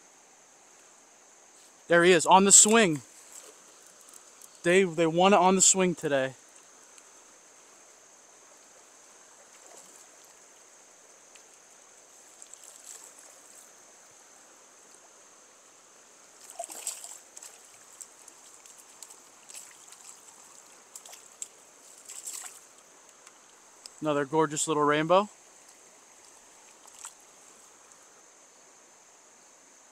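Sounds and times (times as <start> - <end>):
river water flowing: 0.0 - 29.9.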